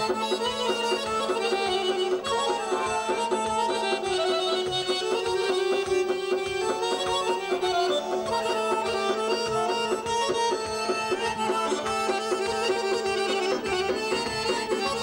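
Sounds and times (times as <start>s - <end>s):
button accordions playing folk tune: 0.0s - 15.0s.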